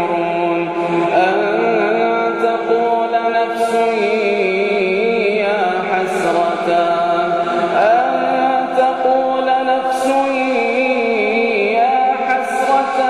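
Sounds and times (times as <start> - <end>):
man chanting with echo: 0.0 - 13.0.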